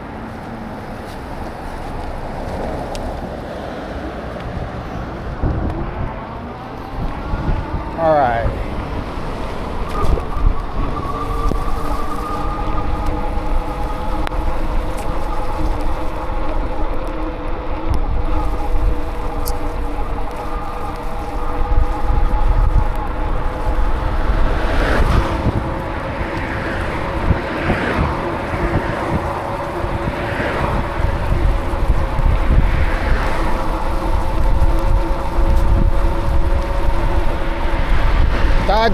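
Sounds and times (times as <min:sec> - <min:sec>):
heavy low rumble: 0:00.0 - 0:38.9
wind buffeting microphone: 0:00.0 - 0:38.9
hum of several tones: 0:05.3 - 0:38.7.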